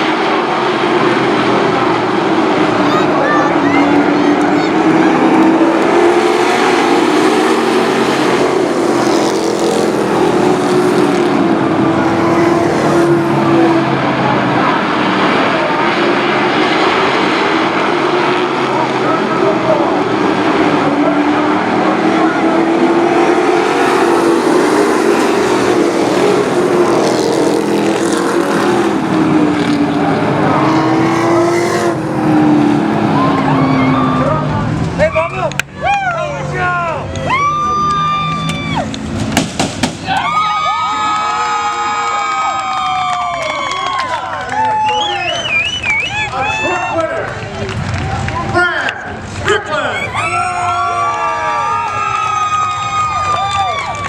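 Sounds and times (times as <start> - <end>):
race truck engines: 0.0 - 54.0.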